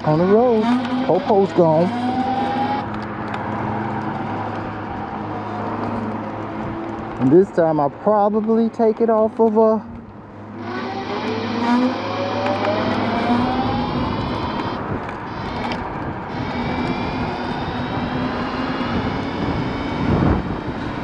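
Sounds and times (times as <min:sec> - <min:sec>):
electric scooter motor whining: 0:00.0 - 0:07.4, 0:10.4 - 0:21.0
rushing wind: 0:00.0 - 0:08.1, 0:09.8 - 0:21.0
road noise: 0:00.0 - 0:21.0.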